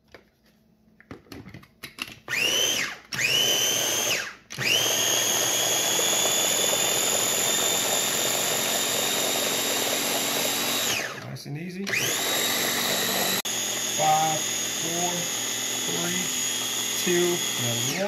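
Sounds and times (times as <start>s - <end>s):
food chopper motor whine: 2.3s - 11.3s, 11.9s - 18.0s.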